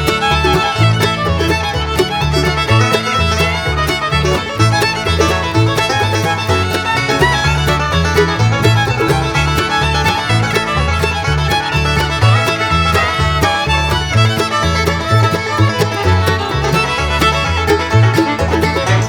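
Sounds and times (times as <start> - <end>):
bluegrass music with fiddle: 0.0 - 19.0.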